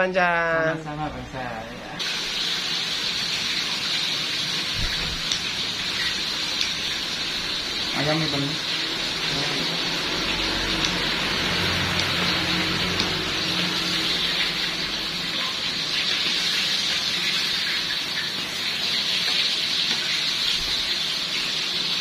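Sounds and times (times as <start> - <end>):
oil sizzling in a fryer: 2.0 - 22.0.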